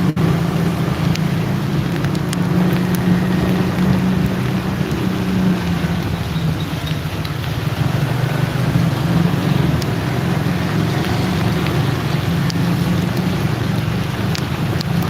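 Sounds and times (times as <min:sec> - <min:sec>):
motorcycle engine running: 0:00.0 - 0:15.0
water hissing on road: 0:00.0 - 0:15.0
wind over microphone: 0:00.0 - 0:15.0.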